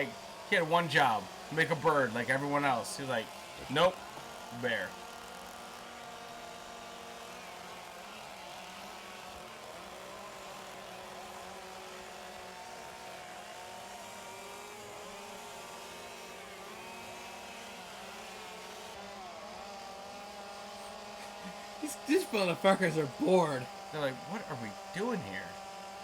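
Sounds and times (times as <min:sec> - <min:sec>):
chainsaws cutting wood: 0:00.0 - 0:26.0.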